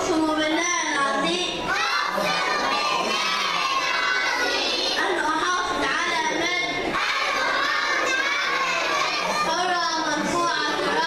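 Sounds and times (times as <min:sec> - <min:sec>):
children chanting in unison: 0:01.6 - 0:11.0.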